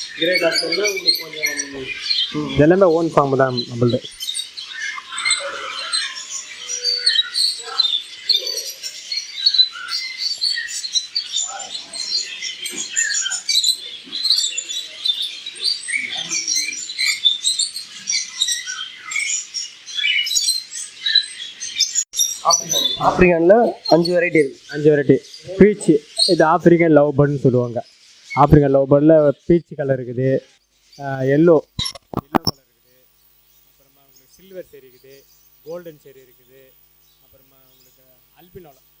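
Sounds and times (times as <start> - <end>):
caged birds chirping: 0.0 - 39.0.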